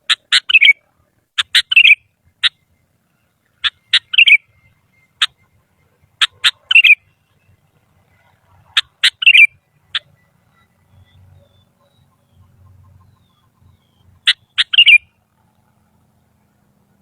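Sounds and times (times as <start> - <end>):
bulbul singing: 0.0 - 15.3.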